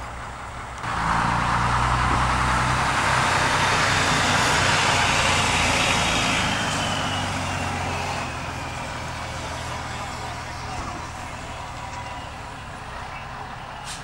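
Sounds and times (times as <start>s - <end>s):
diesel truck engine passing: 0.0s - 14.0s
tyre noise on wet road: 0.0s - 14.0s.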